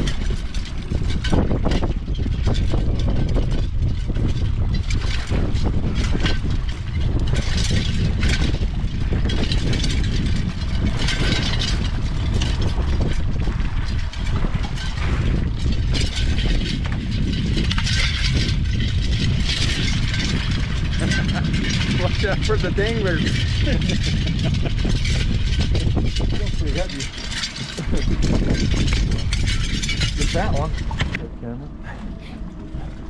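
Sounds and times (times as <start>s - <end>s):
boat motor running: 0.0s - 33.0s
wind rumble on microphone: 0.0s - 33.0s.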